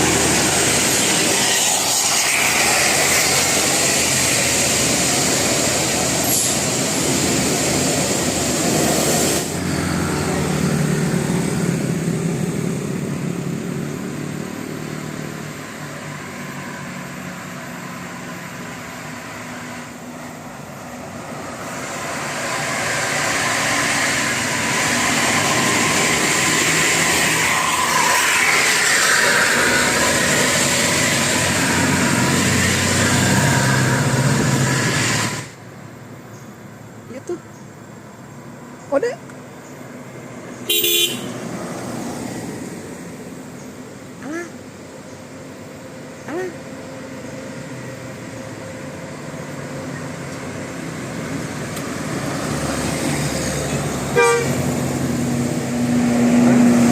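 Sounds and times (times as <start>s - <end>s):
buses driving past: 0.0s - 56.9s.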